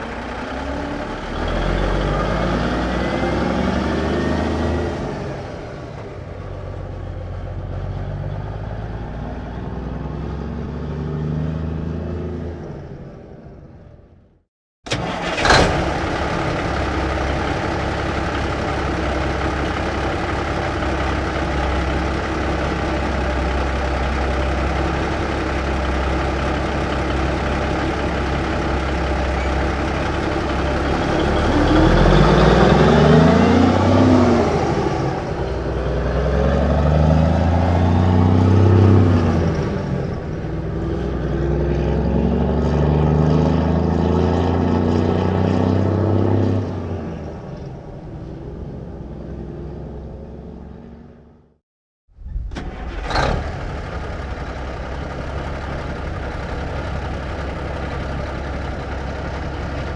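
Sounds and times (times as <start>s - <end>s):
truck engine starting and revving: 0.0s - 14.0s, 14.9s - 51.6s, 52.2s - 59.9s.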